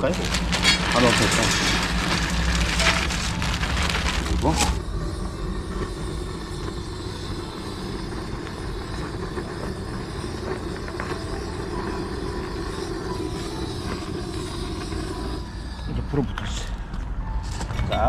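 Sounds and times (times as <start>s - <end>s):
stove rushing rumble: 0.0s - 18.0s.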